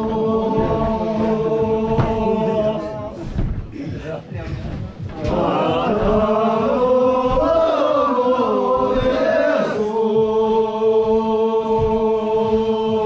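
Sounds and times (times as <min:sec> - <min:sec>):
men singing in unison: 0:00.0 - 0:04.0, 0:05.2 - 0:13.0.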